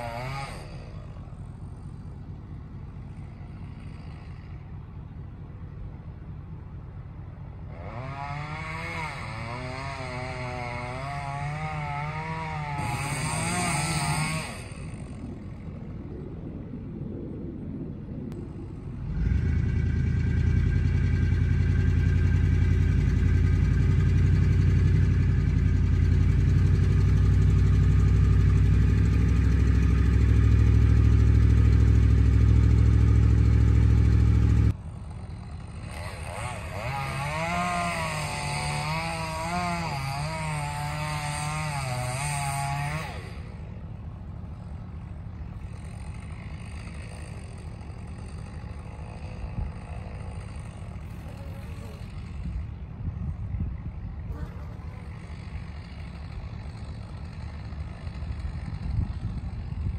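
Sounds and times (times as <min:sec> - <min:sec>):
vehicle engine droning: 0:00.0 - 0:59.9
motor with wavering pitch: 0:07.7 - 0:16.0, 0:18.4 - 0:59.9.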